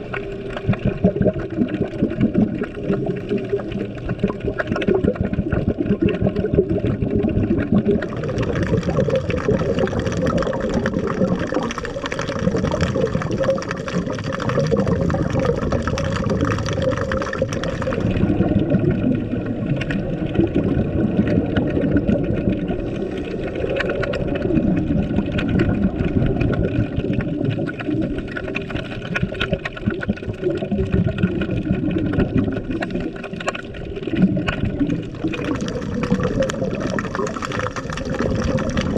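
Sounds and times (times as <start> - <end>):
muffled underwater rush: 0.0 - 38.9
underwater crackling: 0.0 - 38.9.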